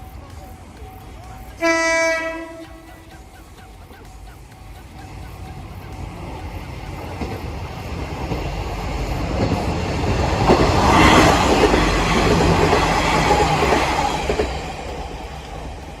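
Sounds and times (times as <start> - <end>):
train rumble and wheel noise: 0.0 - 16.0.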